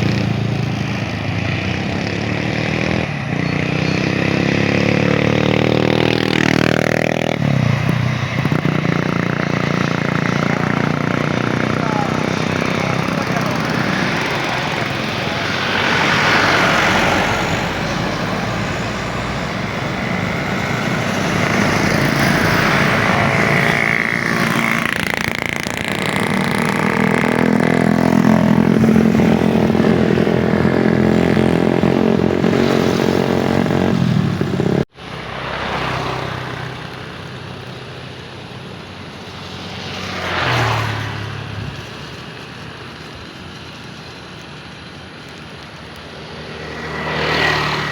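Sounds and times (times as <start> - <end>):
vehicle passing: 0.0 - 42.8, 46.0 - 47.9
jet engine noise: 0.0 - 47.9
road traffic: 0.0 - 47.9.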